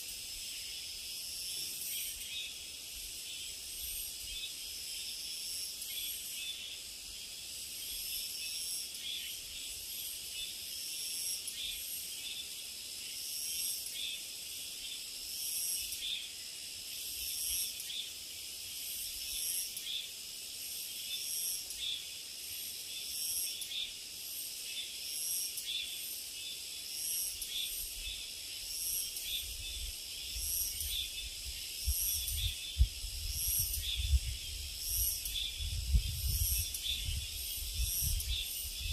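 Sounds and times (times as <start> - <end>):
cicadas chirring: 0.0 - 38.9.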